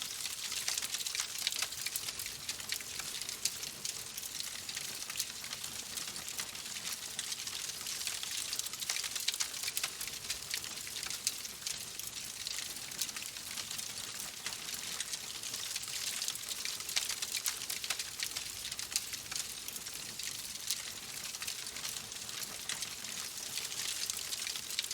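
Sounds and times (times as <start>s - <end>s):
wood fire crackling: 0.1s - 24.9s.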